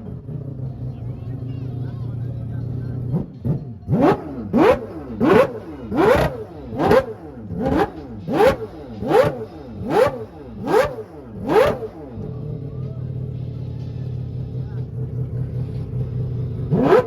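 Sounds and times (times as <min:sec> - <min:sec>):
rotary engine revving: 0:00.0 - 0:17.0.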